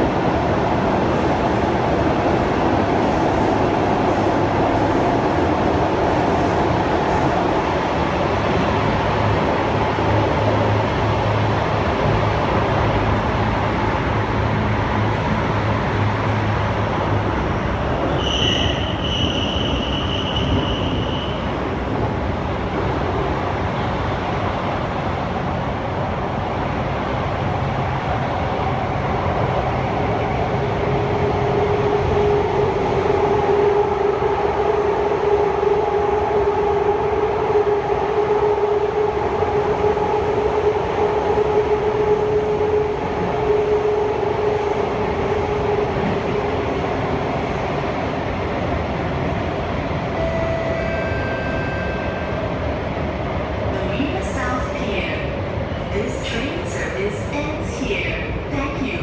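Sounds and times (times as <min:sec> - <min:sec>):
train rolling rumble: 0:00.0 - 0:59.0.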